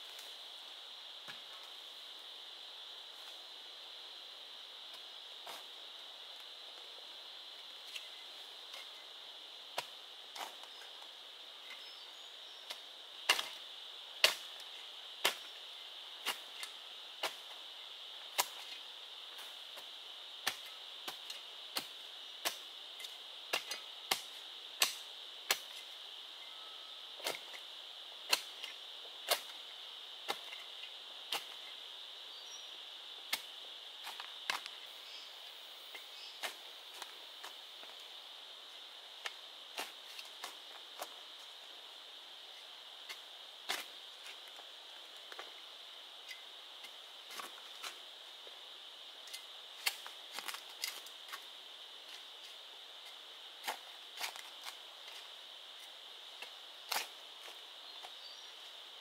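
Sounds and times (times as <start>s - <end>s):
high-pitched insect drone: 1.7s - 55.6s.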